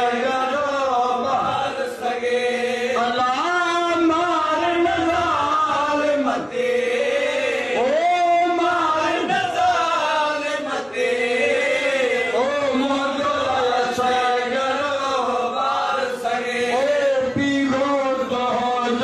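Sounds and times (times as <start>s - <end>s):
man singing a lament: 0.0s - 19.0s.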